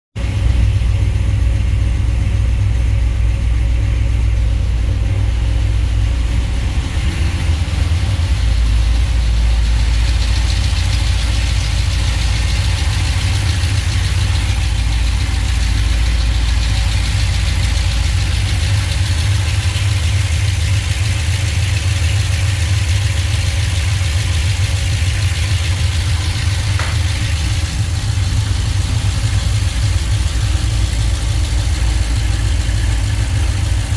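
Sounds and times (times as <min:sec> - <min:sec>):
v eight engine idling: 0:00.2 - 0:33.9.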